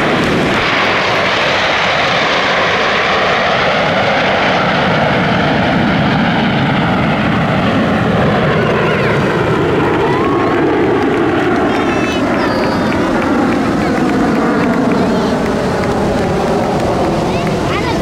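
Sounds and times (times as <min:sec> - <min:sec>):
jet aircraft flying overhead: 0:00.0 - 0:18.0.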